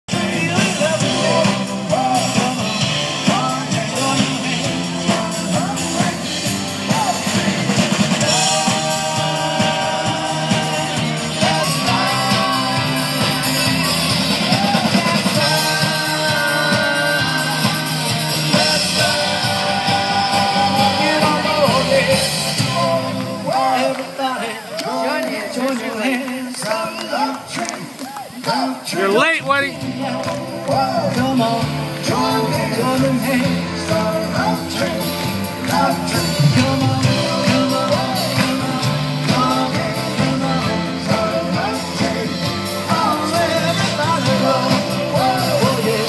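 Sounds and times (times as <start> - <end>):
drums: 0.0 - 46.0
guitar: 0.0 - 46.0
person singing: 0.1 - 46.0.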